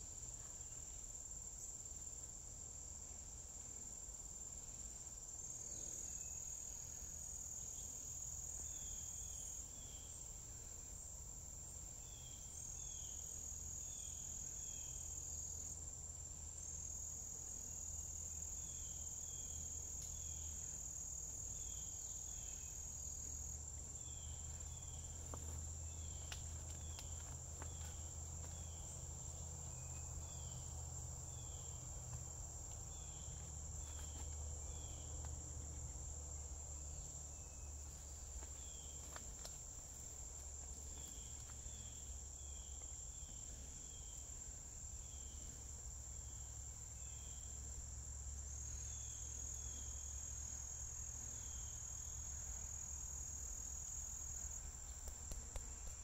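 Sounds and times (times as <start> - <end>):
insects trilling: 0.2 - 56.0.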